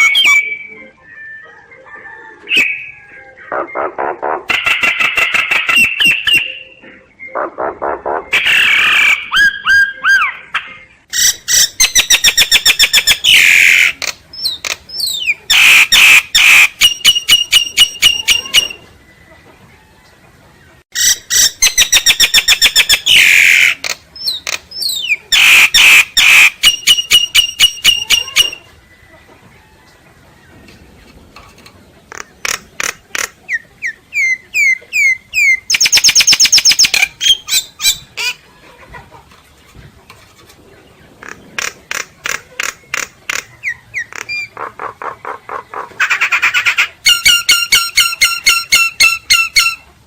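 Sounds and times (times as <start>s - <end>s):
myna singing and squawking: 0.0s - 19.0s, 20.7s - 29.3s, 31.5s - 50.0s.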